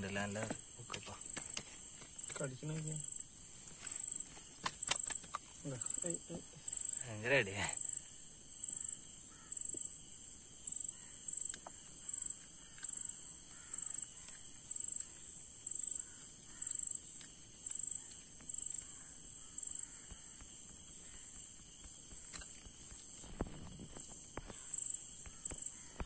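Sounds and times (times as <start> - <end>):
crickets chirping: 0.0 - 26.0
high insect drone: 0.0 - 26.0.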